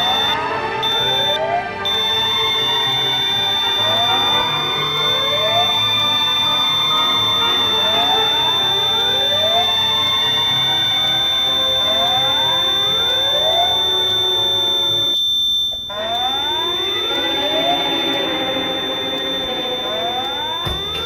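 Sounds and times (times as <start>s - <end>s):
fire alarm whoop tone: 0.0s - 21.0s
steady high-pitched tone: 0.0s - 21.0s.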